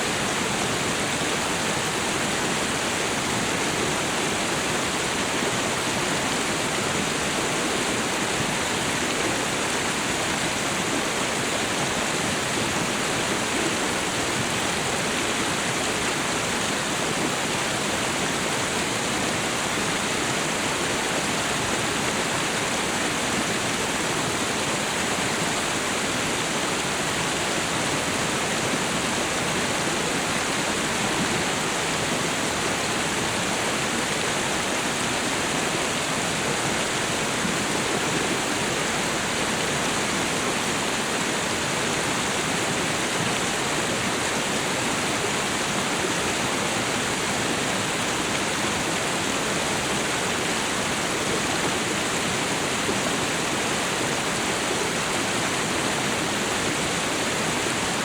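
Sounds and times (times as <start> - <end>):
waterfall and river rushing: 0.0 - 58.0.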